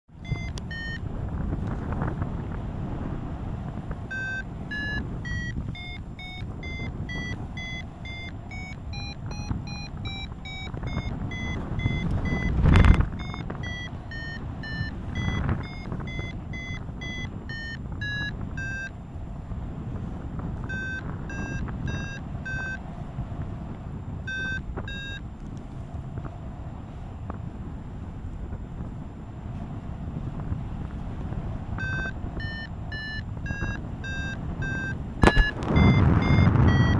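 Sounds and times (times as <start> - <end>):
wind noise on microphone: 0.1 - 36.9
variometer beeping: 0.2 - 2.2, 3.7 - 26.2, 30.2 - 36.9.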